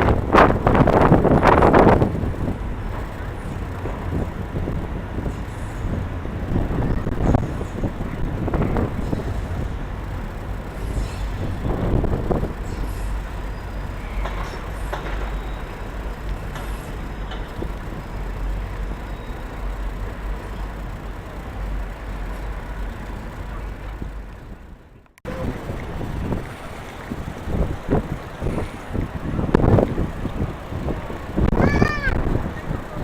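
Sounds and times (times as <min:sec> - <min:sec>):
low rumble of vehicles: 0:00.0 - 0:33.0.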